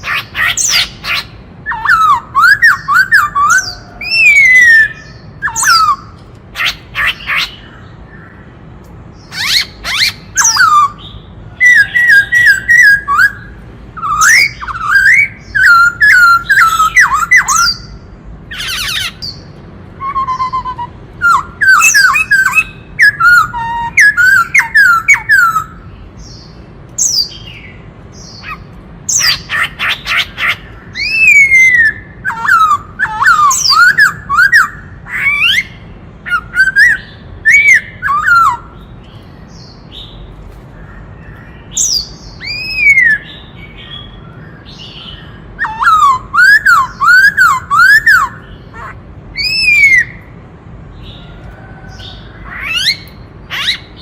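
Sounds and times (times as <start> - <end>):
bird whistling song: 0.0 - 8.5, 9.1 - 40.2, 41.1 - 50.3, 51.9 - 54.0
harsh rasping bird calls: 0.0 - 54.0.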